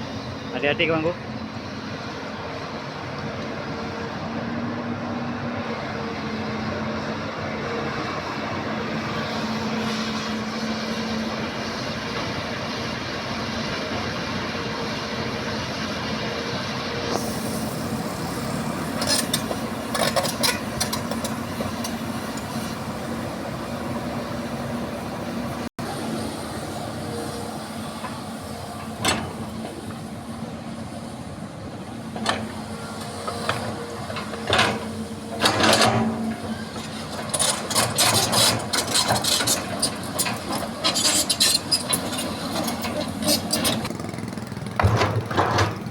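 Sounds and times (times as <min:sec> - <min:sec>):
diesel engine running: 0:01.1 - 0:45.9.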